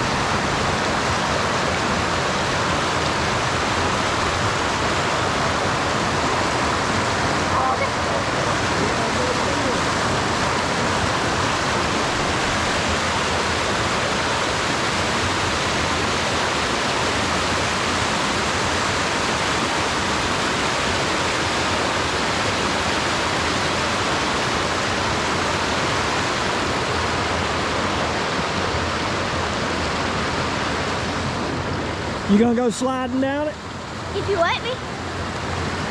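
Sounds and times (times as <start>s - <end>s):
water rushing over rocks: 0.0s - 35.9s.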